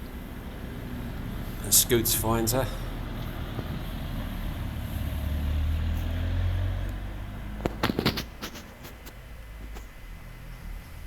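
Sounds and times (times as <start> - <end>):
vehicle passing rumble: 0.0 - 11.0.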